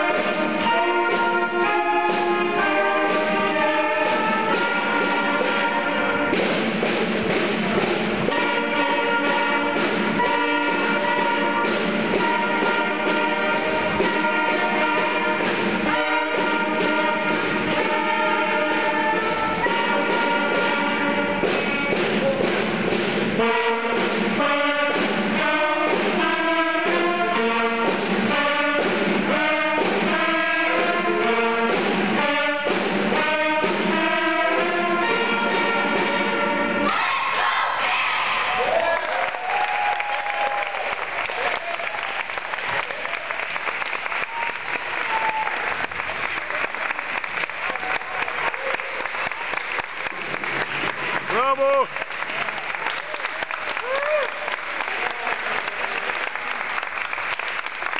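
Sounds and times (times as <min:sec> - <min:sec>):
concert band playing: 0:00.0 - 0:57.9.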